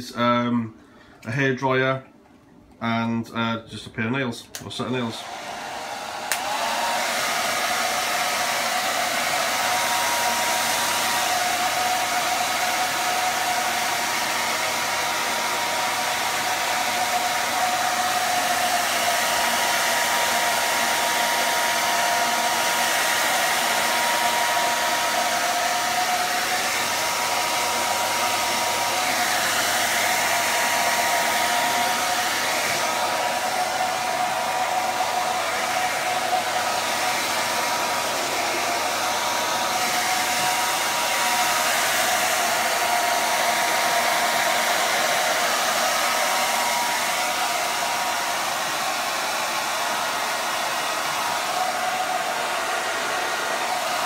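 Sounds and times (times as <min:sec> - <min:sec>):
hair dryer blowing: 0:04.5 - 0:54.0.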